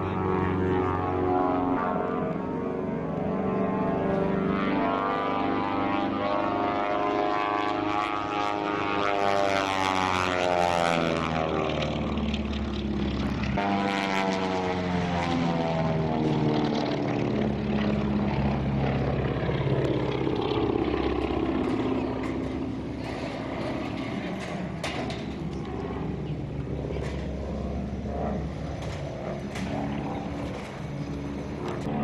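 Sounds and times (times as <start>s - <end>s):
propeller airplane flying past: 0.0s - 32.0s.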